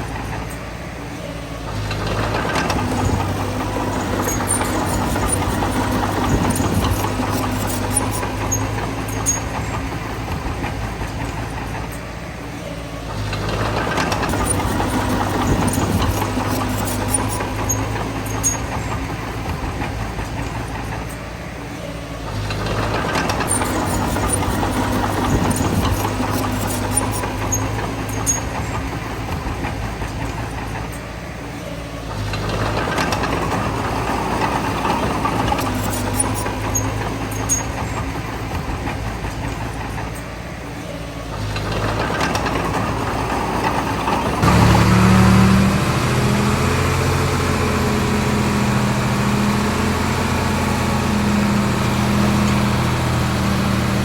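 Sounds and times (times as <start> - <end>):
metallic clanks from tracks: 0.0 - 45.5
bulldozer diesel engine under load: 0.0 - 54.0.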